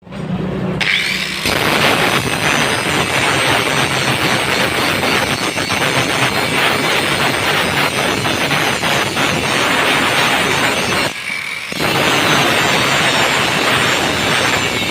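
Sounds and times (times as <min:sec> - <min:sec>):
harsh crackling metal rasp: 0:00.8 - 0:14.9.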